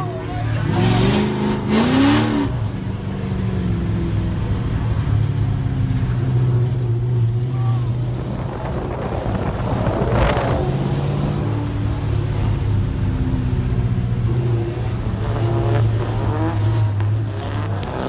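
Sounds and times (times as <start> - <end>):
car engine drone: 0.0 - 18.0
car engine revving: 0.0 - 18.0.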